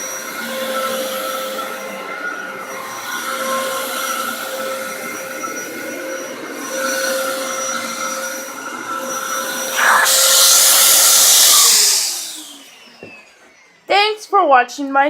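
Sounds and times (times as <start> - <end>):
vacuum cleaner running: 0.0 - 14.1.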